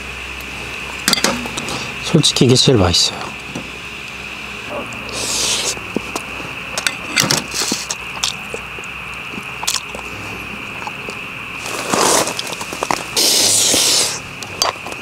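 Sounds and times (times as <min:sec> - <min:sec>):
high-pitched hum: 0:00.0 - 0:15.0.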